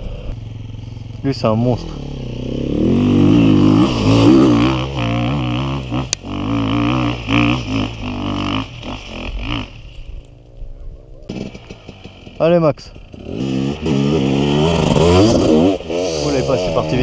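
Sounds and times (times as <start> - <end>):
dirt bike engine revving: 0.0 - 10.2, 11.3 - 17.0.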